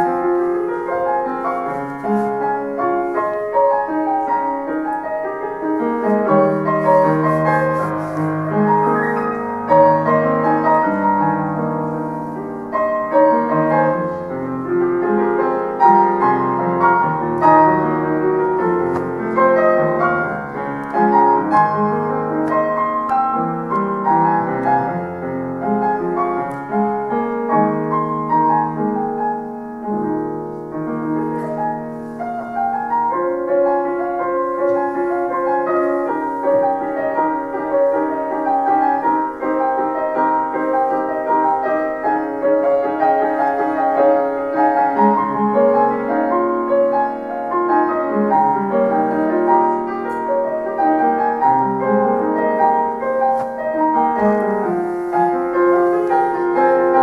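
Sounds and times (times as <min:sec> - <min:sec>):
grand piano playing: 0:00.0 - 0:57.0.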